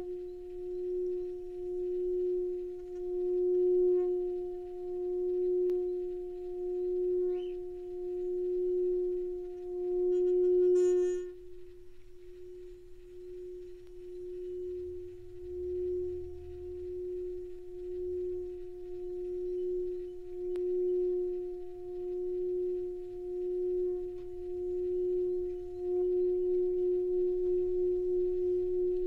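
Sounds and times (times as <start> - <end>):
singing bowl ringing: 0.0 - 29.0.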